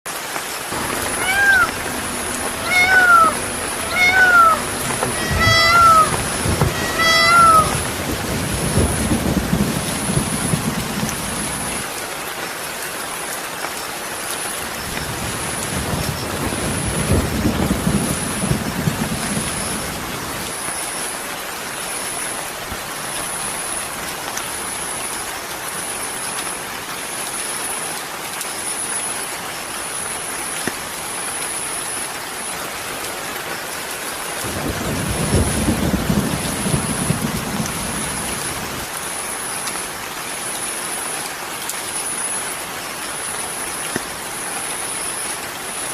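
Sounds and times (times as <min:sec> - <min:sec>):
steady rain hiss: 0:00.1 - 0:45.9.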